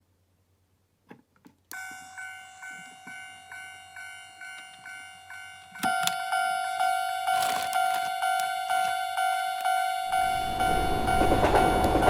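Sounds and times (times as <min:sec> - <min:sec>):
electronic crossing bell dinging: 0:01.7 - 0:12.0.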